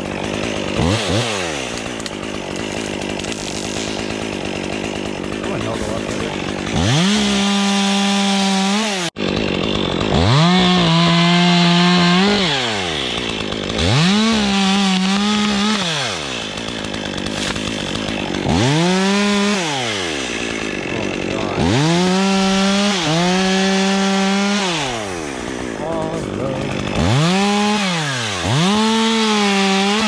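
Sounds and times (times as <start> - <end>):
chainsaw revving and idling: 0.0 - 30.0.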